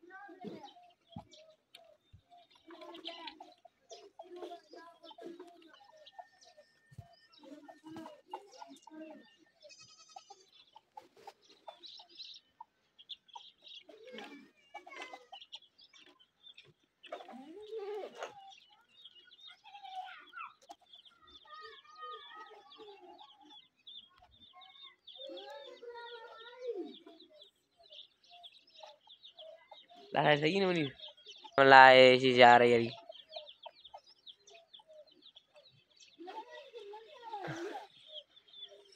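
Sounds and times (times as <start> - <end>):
chickens clucking: 0.0 - 38.9
small birds chirping: 0.0 - 38.9.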